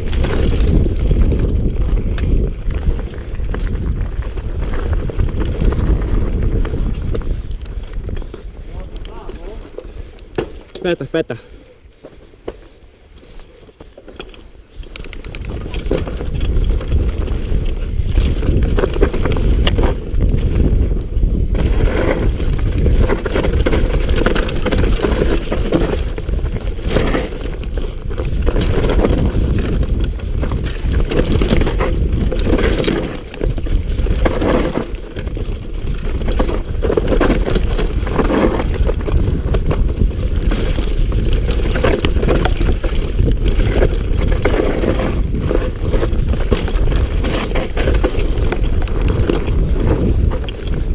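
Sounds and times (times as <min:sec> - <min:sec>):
bike rattling and knocking: 0:00.0 - 0:11.4, 0:12.0 - 0:50.9
wind and tyre rumble: 0:00.0 - 0:50.9.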